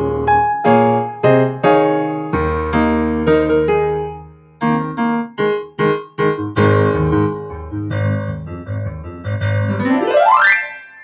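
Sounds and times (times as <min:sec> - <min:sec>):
keyboard piano chords: 0:00.0 - 0:11.0.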